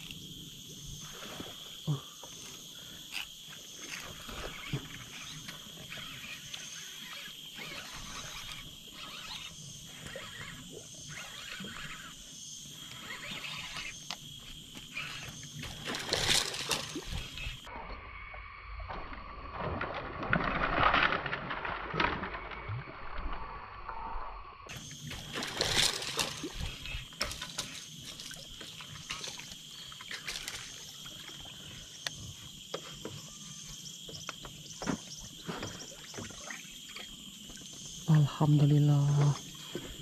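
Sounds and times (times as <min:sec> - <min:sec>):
water splashing and sloshing: 0:00.0 - 0:18.0, 0:18.7 - 0:23.5, 0:24.7 - 0:40.0
high insect drone: 0:00.0 - 0:19.6, 0:22.2 - 0:40.0.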